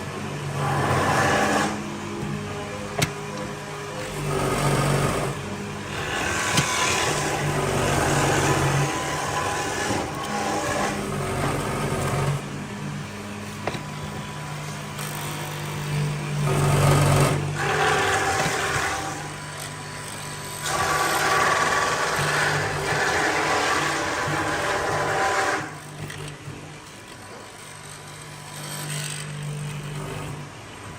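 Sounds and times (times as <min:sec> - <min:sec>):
power tool motor: 0:00.0 - 0:30.8
gritty wood cutting noise: 0:00.0 - 0:30.9.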